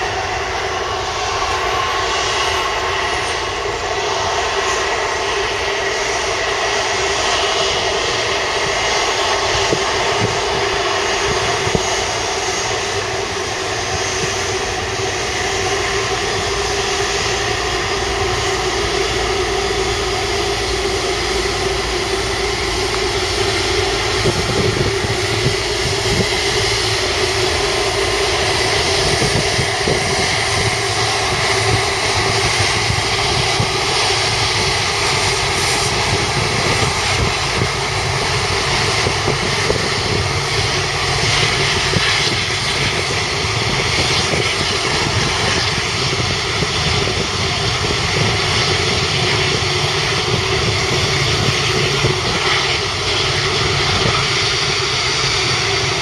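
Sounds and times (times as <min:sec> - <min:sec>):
jet engines at taxi power: 0:00.0 - 0:56.0.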